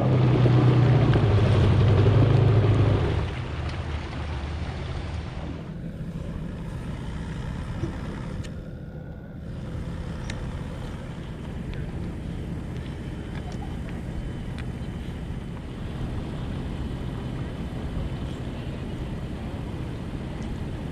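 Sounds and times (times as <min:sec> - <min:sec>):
jet ski engine running: 0:00.0 - 0:20.9.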